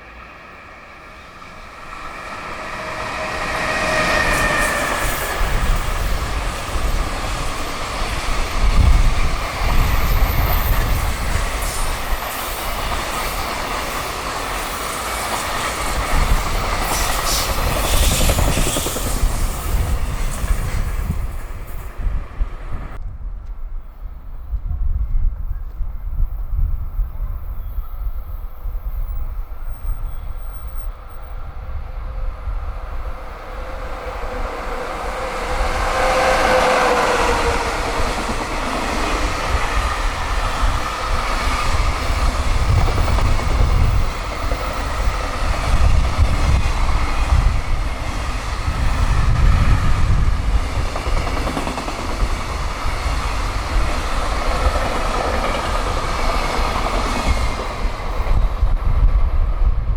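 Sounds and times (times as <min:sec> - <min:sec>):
freight train passing: 0:00.0 - 0:59.9
wind rumbling on microphone: 0:02.2 - 0:13.8, 0:15.6 - 0:59.9.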